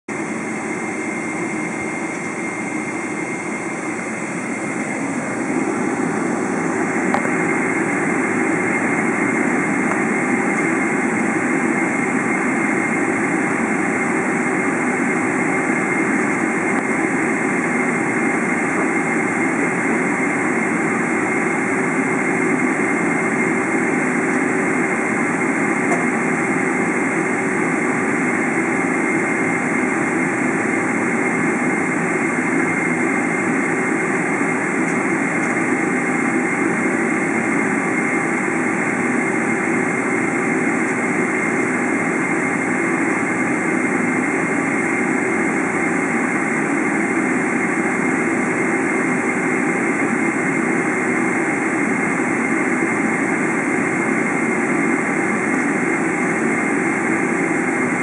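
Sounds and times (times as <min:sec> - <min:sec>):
jet engines heard from cabin: 0:00.1 - 0:58.0.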